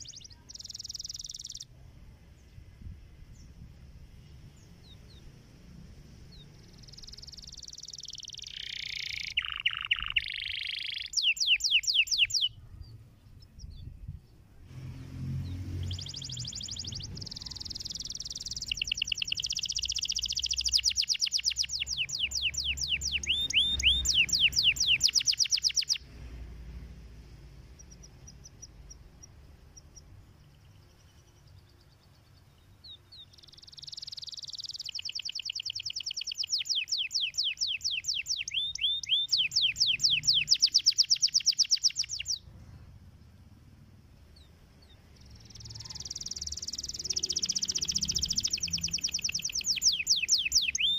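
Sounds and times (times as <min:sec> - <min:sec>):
canary singing trills: 0:00.0 - 0:02.5, 0:06.1 - 0:14.2, 0:15.4 - 0:26.1, 0:27.5 - 0:42.6, 0:44.3 - 0:50.9.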